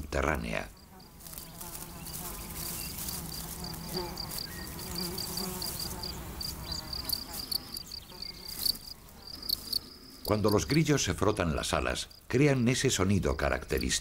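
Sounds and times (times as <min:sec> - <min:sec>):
cricket chirping: 0:00.7 - 0:12.3, 0:13.3 - 0:14.0.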